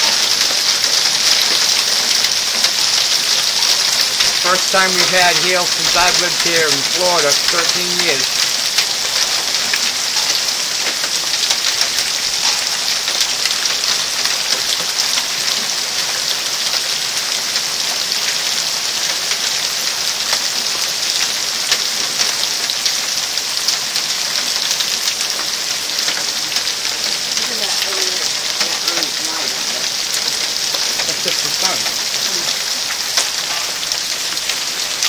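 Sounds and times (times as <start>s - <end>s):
hail pelting down: 0.0s - 35.0s.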